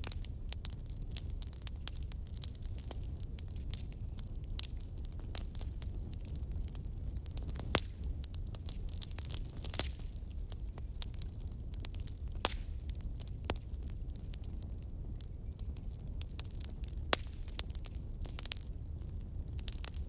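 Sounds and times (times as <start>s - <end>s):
campfire crackles and pops: 0.0s - 20.0s
low rumble of flames: 0.0s - 20.0s.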